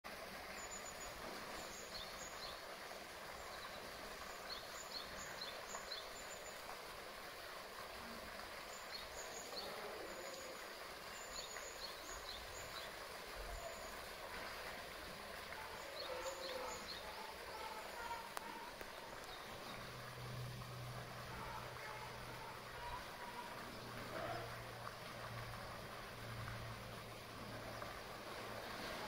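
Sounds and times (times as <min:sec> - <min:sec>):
water splashing: 0:00.1 - 0:29.0.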